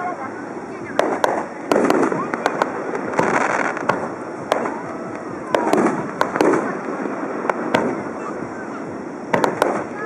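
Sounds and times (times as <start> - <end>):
fireworks bursting with sharp bangs: 0.8 - 10.0.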